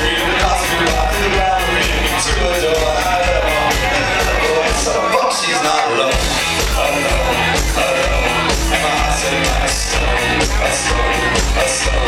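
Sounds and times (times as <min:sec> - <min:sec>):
live rock band playing: 0:00.0 - 0:12.0
man singing: 0:00.0 - 0:12.0.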